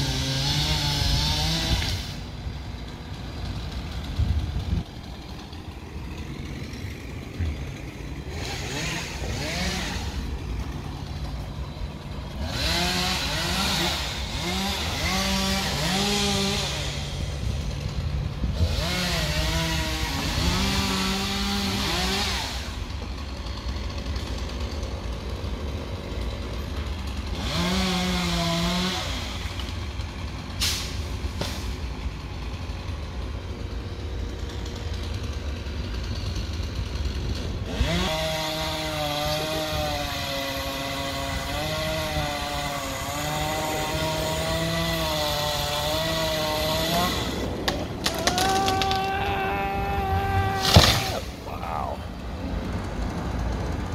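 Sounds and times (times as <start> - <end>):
chainsaw revving: 0.0 - 53.9
truck engine running: 0.0 - 53.9.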